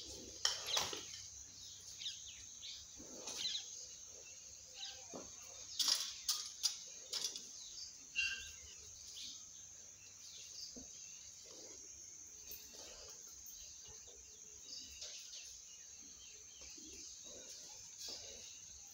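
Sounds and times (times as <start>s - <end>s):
bird chirp: 0.0s - 18.9s
high-pitched background hiss: 0.0s - 18.9s.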